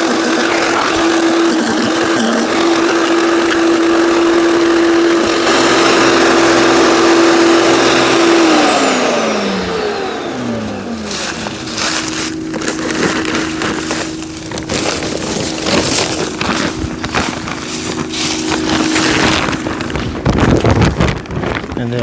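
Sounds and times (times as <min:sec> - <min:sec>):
branches being shredded: 0:00.0 - 0:08.5, 0:09.1 - 0:22.0
wood chipper motor whining: 0:00.0 - 0:22.0.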